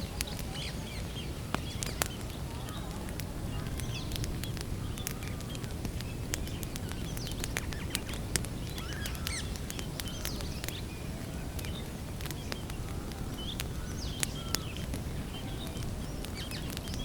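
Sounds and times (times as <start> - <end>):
campfire crackling and popping: 0.0 - 17.0
small birds chirping: 0.0 - 17.0.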